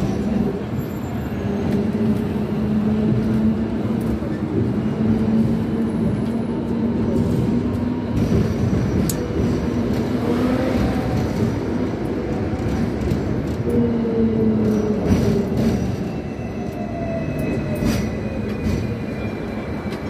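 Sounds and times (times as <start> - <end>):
tram motor hum: 0.0 - 20.0
tram wheels rumbling on rails: 0.0 - 20.0.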